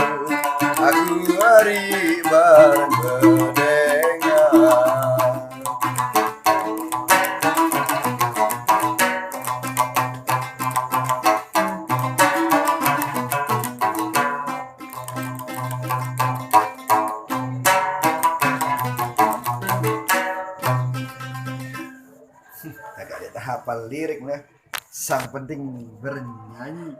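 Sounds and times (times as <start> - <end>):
plucked lute playing: 0.0 - 22.3.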